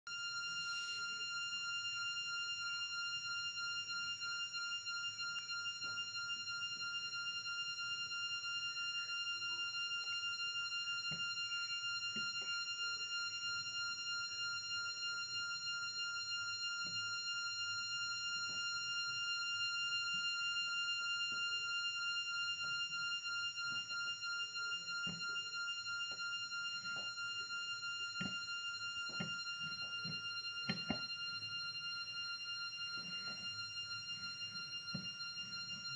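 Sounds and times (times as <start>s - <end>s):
steady high-pitched tone: 0.1s - 35.9s.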